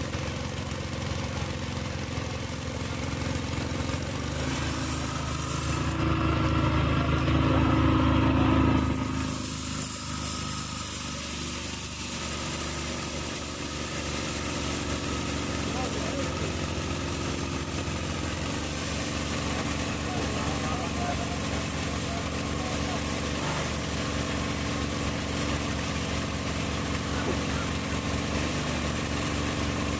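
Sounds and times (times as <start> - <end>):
rail grinder engine running: 0.0 - 29.9.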